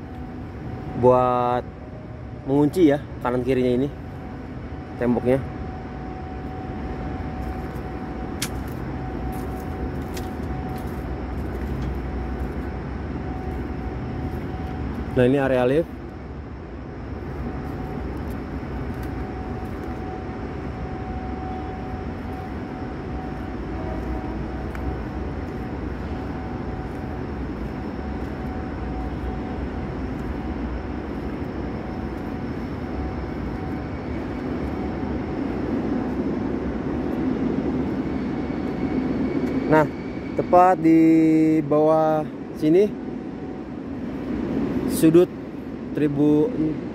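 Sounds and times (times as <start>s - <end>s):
construction site rumble: 0.0s - 46.9s
faint machinery hum: 0.0s - 46.9s.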